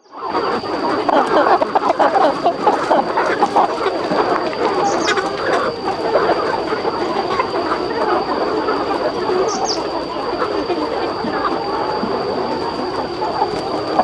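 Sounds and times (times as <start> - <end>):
flock of chickens clucking: 0.0 - 14.0
steady high-pitched whine: 0.0 - 14.0.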